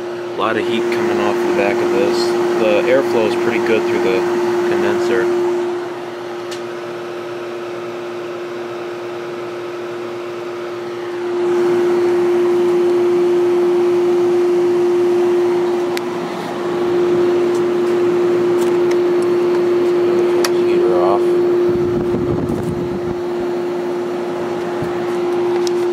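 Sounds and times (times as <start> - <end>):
air conditioner compressor hum: 0.0 - 25.9
fan airflow rushing: 0.0 - 25.9.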